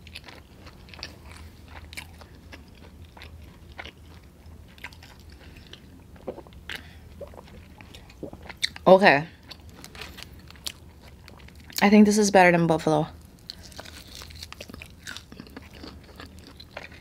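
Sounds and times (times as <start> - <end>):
wet chewing and mouth smacks: 0.0 - 11.8, 13.4 - 17.0.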